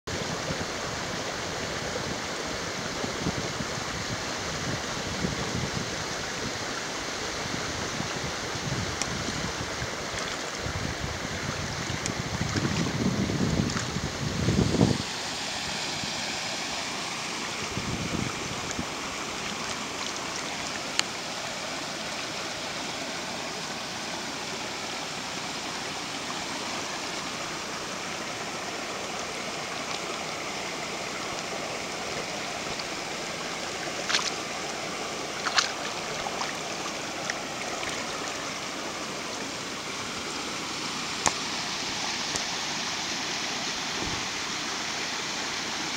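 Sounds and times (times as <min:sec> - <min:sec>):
river rushing over stones: 0:00.1 - 0:45.9.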